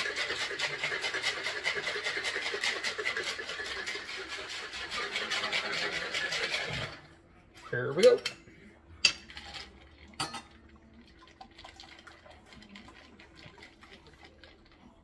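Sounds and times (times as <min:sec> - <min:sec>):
ice rattling in a shaker: 0:00.0 - 0:07.0, 0:09.3 - 0:15.0.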